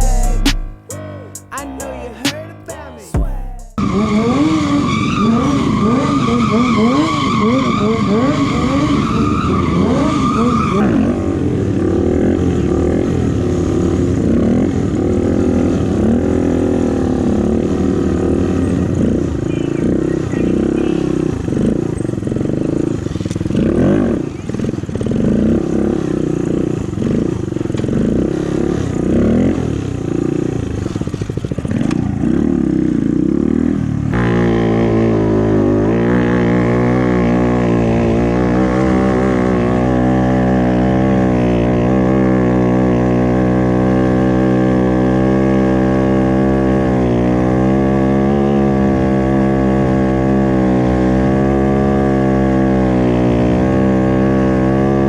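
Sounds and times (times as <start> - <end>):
motorcycle engines revving: 0.0 - 0.8, 1.8 - 55.0
motorcycle engine at steady revs: 4.2 - 55.0.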